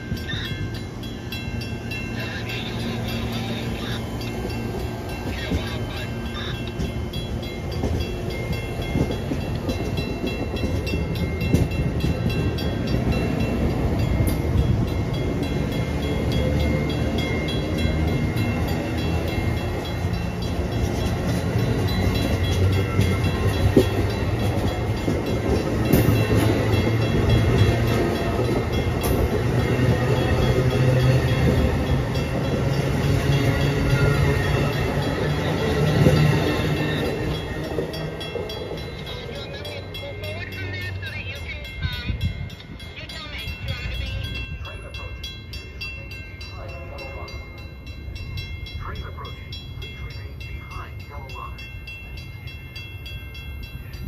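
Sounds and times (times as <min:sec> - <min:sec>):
wheels clicking over rail joints: 0:00.0 - 0:46.4
train wheels rumbling on rail: 0:00.0 - 0:54.0.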